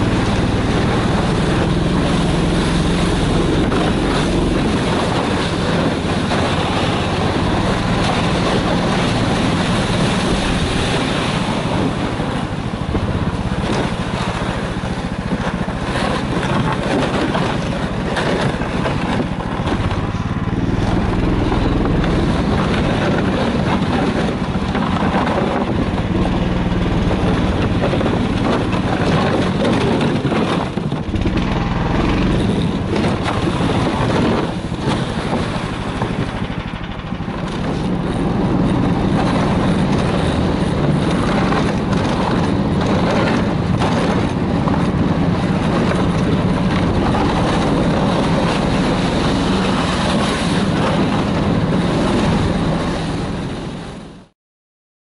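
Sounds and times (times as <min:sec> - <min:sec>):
snowmobile engine droning: 0:00.0 - 0:54.3.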